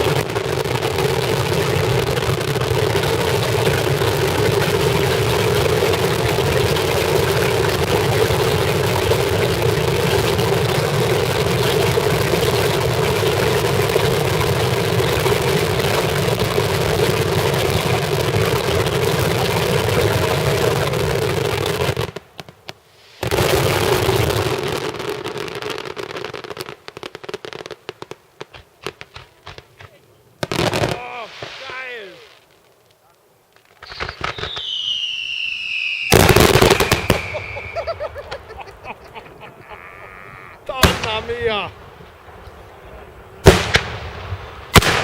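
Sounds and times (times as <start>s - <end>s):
fireworks bangs: 0.0s - 45.0s
fireworks crackles: 0.0s - 45.0s.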